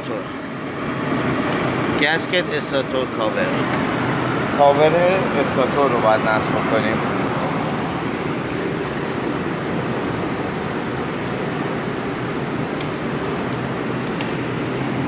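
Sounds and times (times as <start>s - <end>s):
mechanical rushing hiss: 0.8s - 15.0s.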